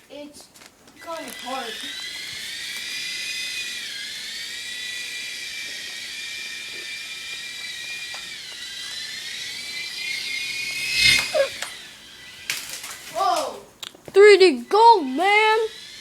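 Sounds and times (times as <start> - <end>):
toy helicopter motor whine: 1.0 - 13.6, 14.7 - 16.0.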